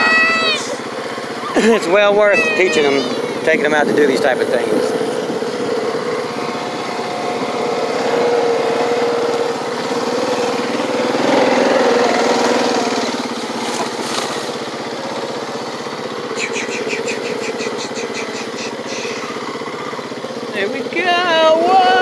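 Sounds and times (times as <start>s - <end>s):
quad engine running: 0.0s - 22.0s.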